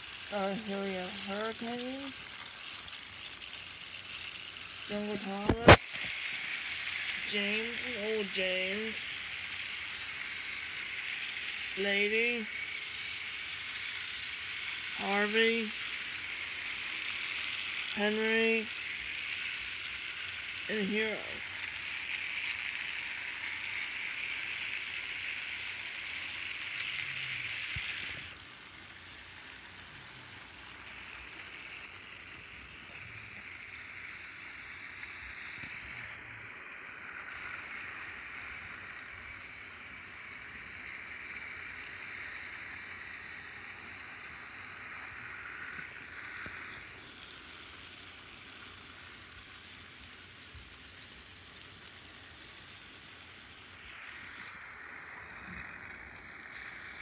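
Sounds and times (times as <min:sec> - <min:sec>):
wheels rattling over track joints: 0:00.0 - 0:20.1, 0:20.8 - 0:53.8
toy train motors whirring: 0:00.0 - 0:57.0.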